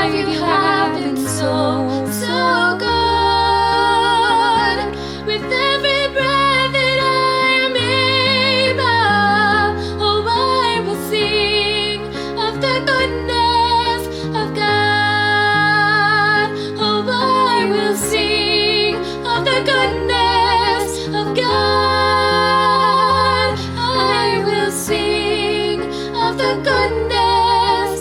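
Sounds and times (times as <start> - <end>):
worship music: 0.0 - 28.0.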